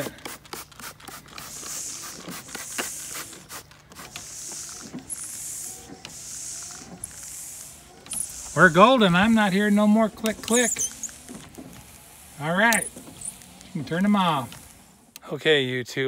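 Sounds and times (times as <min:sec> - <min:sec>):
windshield wipers swishing: 0:01.3 - 0:15.2.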